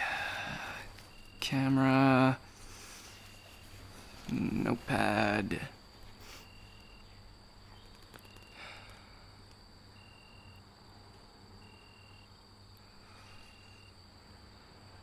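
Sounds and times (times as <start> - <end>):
cricket chirping: 0.0 - 15.0
low steady hum: 0.0 - 15.0.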